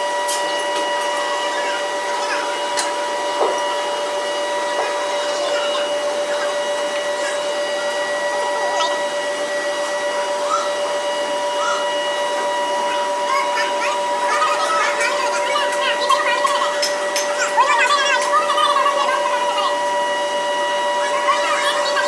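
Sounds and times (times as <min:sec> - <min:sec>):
workshop machinery hissing and whining: 0:00.0 - 0:22.0.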